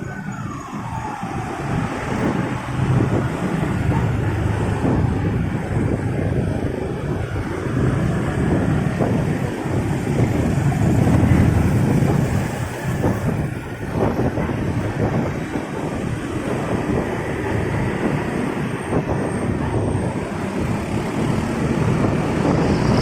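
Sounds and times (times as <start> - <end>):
traffic rumble: 0.0 - 23.0
wind noise on microphone: 0.0 - 23.0.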